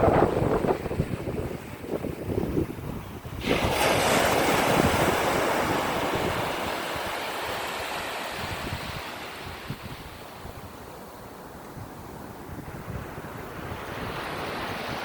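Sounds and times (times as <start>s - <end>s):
wave breaking on beach: 0.0s - 10.6s, 13.3s - 15.0s
wind rumbling on microphone: 0.0s - 15.0s.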